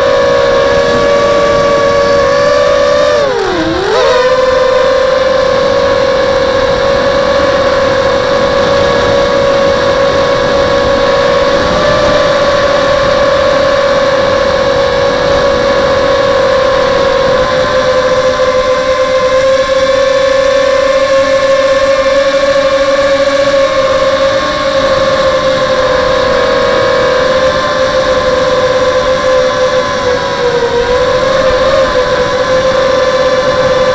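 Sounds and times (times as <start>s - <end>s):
quadcopter motors whining: 0.0s - 33.9s.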